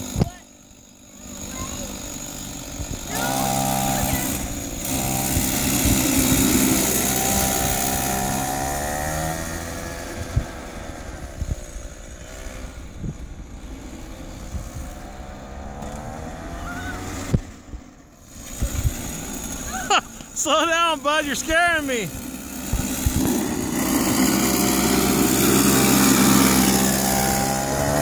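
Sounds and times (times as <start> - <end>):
go-kart engine running: 0.0 - 28.0.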